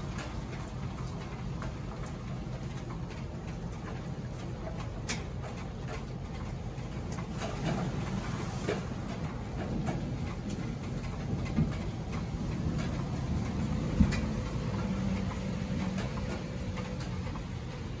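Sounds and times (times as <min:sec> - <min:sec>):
rain drops ticking: 0:00.0 - 0:18.0.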